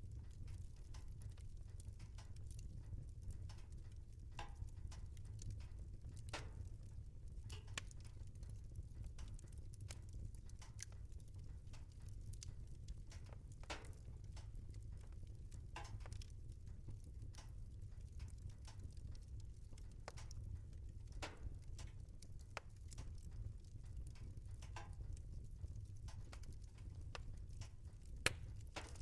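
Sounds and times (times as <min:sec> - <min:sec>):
fire crackling and popping: 0:00.0 - 0:29.0
low fire rumble: 0:00.0 - 0:29.0.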